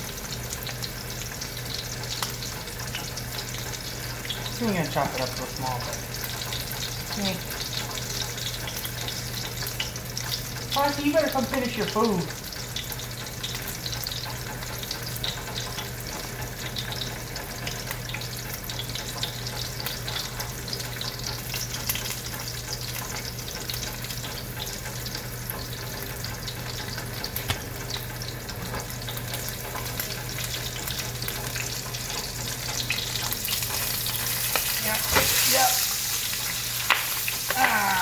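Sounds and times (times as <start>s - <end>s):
sausage sizzling in a frying pan: 0.0s - 38.0s.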